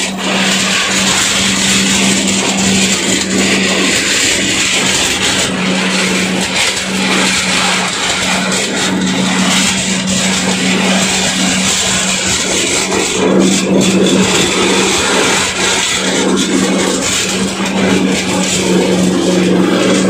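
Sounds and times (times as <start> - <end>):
diesel engine drone: 0.0 - 20.0
dry husks clattering in machine: 0.0 - 20.0.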